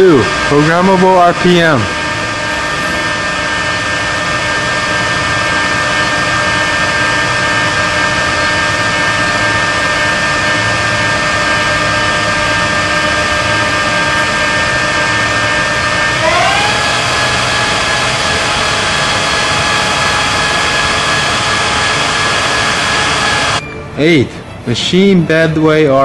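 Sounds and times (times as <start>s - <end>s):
lathe mechanical whine: 0.0s - 23.6s.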